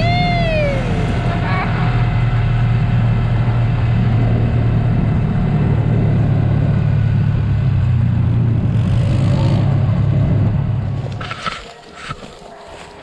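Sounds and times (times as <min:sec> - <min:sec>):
vehicle engine running steadily: 0:00.0 - 0:11.5.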